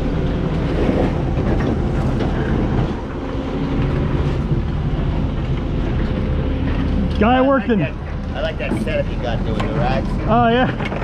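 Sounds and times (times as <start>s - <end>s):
large engine rumbling: 0.0s - 11.0s.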